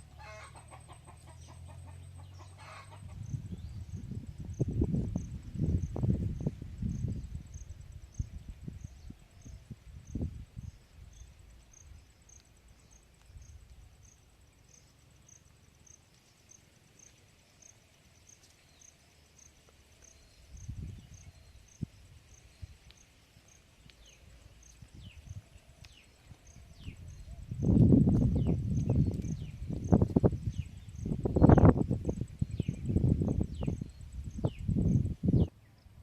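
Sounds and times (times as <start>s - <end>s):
faint high insect chirp: 0.0s - 36.0s
faint steady high whine: 3.1s - 36.0s.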